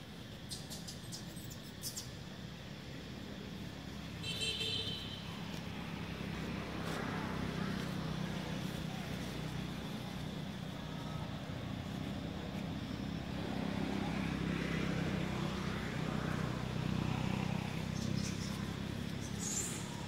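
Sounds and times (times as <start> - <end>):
low rumble of outdoor background: 0.0 - 20.0.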